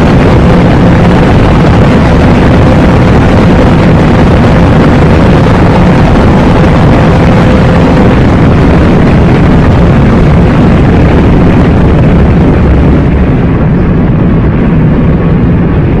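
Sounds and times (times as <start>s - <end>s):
car roaring at high speed: 0.0s - 16.0s.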